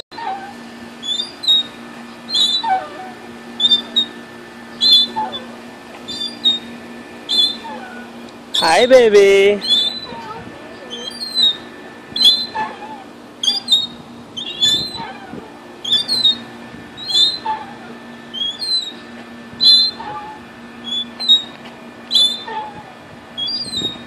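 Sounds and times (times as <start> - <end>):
swing chain squeaking: 0.0 - 24.0.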